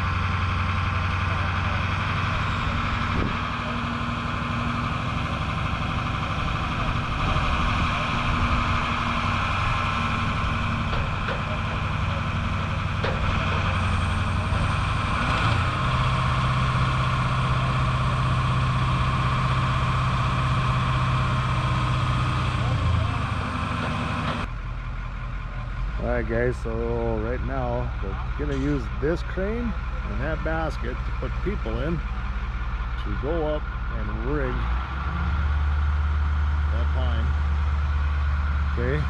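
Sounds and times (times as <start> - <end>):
crane engine running: 0.0 - 39.0.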